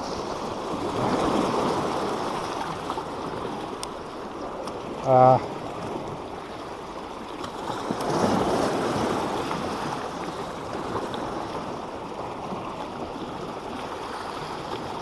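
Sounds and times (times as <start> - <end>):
sea waves washing against boulders: 0.0 - 15.0.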